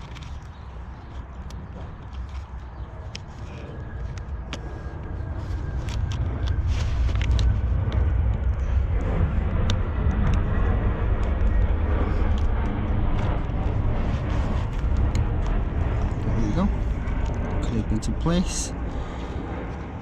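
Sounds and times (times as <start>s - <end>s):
low rumble on microphone: 0.8s - 20.0s.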